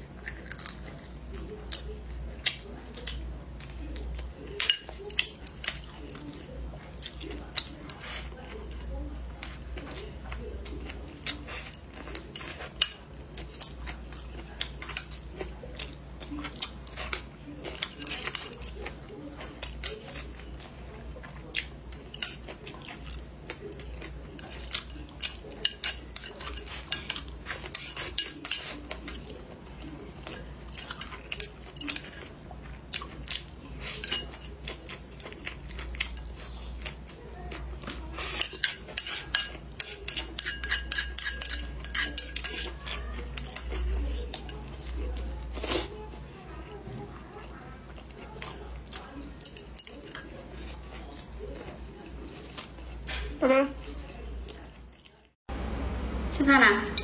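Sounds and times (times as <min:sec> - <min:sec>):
close chewing: 0:00.0 - 0:55.4.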